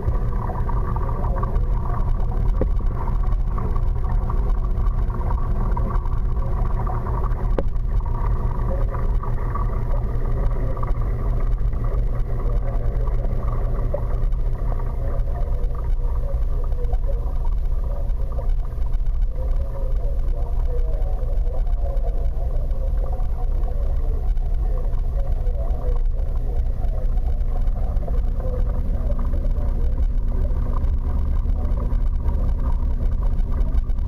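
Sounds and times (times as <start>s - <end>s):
aquarium pumps humming: 0.0s - 34.0s
circulating water: 0.0s - 34.0s.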